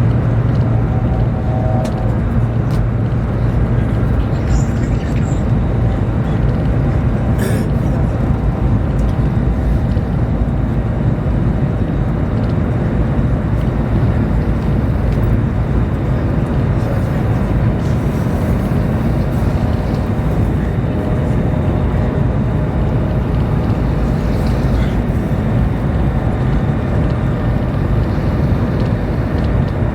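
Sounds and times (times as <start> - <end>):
train rumbling at speed: 0.0 - 29.9.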